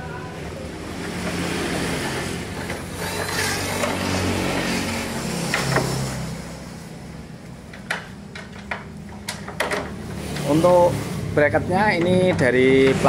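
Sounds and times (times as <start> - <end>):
vehicle engine passing: 0.0 - 7.7, 9.9 - 13.0.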